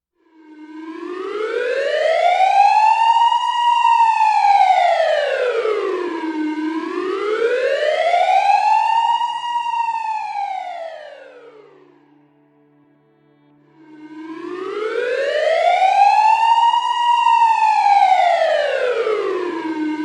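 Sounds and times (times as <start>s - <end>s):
siren wailing: 0.4s - 12.4s, 13.7s - 20.0s.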